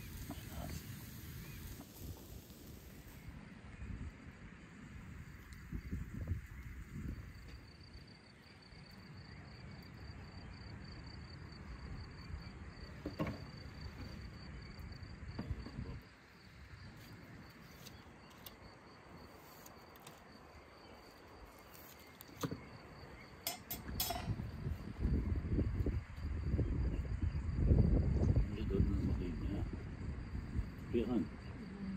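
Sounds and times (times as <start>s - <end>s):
insects chirring: 0.0s - 31.9s.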